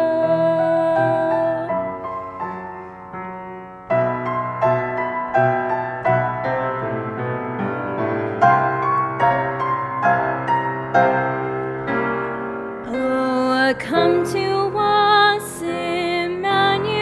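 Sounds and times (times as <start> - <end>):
slow gentle piano: 0.0 - 17.0.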